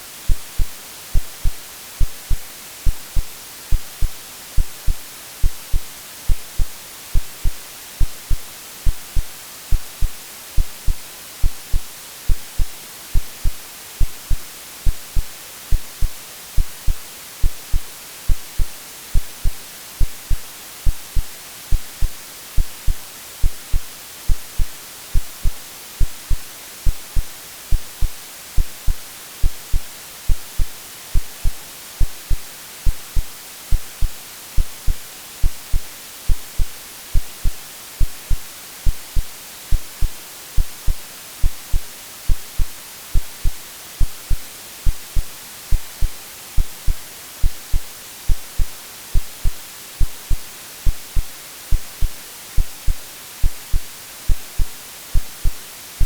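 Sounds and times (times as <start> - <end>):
white noise hiss: 0.0 - 56.0
synthetic heartbeat thumps: 0.3 - 55.6.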